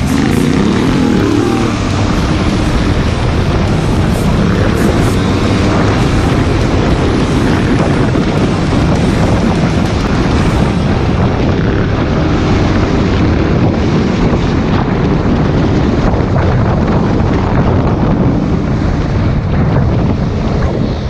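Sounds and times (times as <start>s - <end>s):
atv engine running: 0.0s - 21.0s
wind buffeting microphone: 0.0s - 21.0s.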